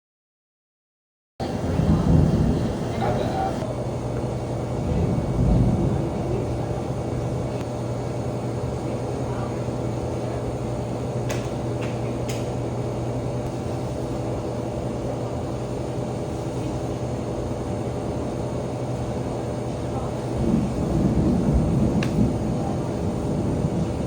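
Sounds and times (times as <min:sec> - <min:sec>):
low hum and rumble: 0:01.4 - 0:24.0
thunder rumbling: 0:01.4 - 0:24.0.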